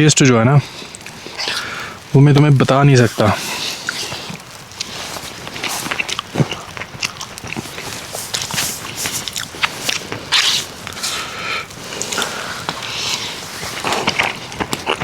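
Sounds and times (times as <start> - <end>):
chewing: 0.6 - 15.0.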